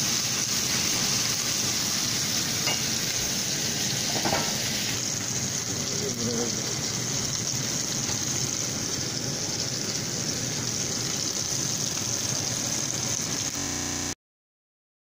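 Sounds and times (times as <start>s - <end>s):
meat sizzling in a skillet: 0.0s - 14.2s.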